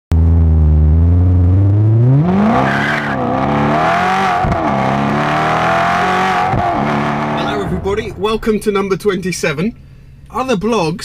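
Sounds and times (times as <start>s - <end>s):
car engine idling and revving: 0.1s - 10.7s.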